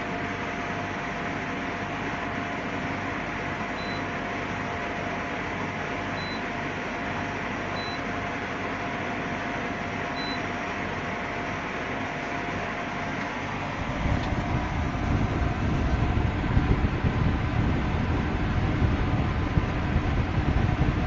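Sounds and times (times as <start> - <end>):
air conditioner running: 0.0 - 21.0.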